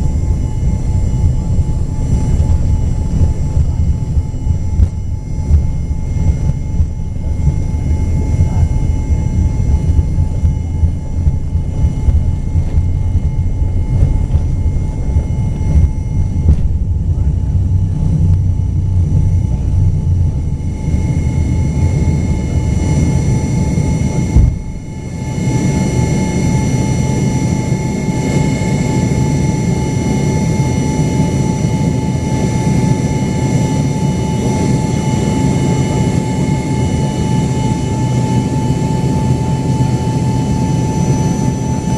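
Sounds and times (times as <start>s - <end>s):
aircraft cabin rumble: 0.0s - 41.9s
jet engine whine: 0.0s - 41.9s.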